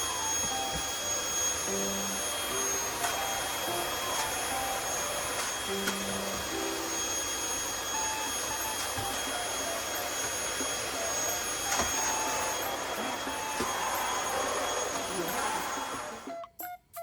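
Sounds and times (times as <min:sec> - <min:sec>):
vacuum cleaner running: 0:00.0 - 0:16.4.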